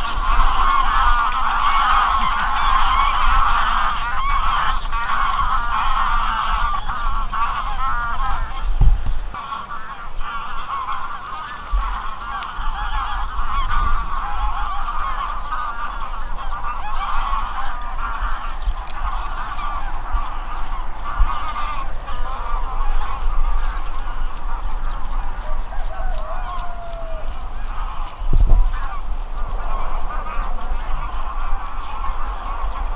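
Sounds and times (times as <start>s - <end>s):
geese honking: 0.0s - 32.9s
wind rumbling on microphone: 0.0s - 32.9s.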